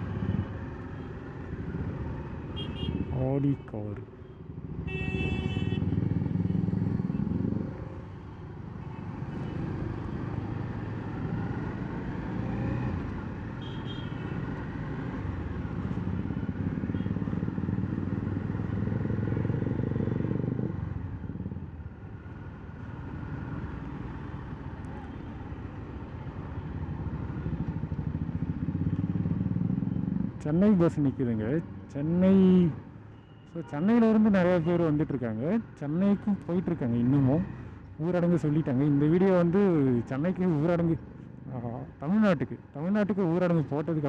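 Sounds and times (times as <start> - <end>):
city traffic: 0.0 - 44.0.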